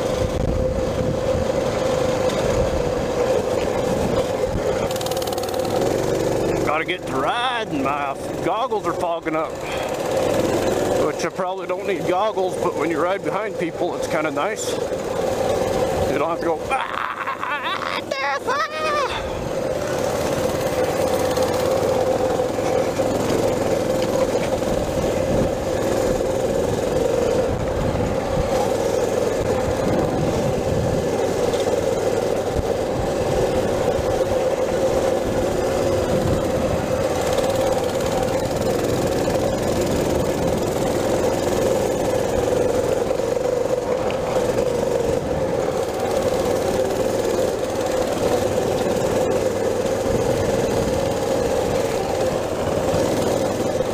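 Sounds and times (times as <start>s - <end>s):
mini bike engine running: 0.0s - 53.9s.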